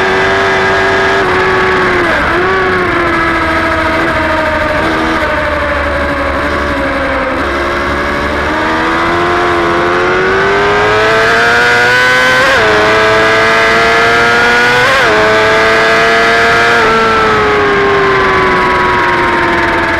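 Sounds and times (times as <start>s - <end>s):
motorcycle engine revving and shifting: 0.0s - 19.9s.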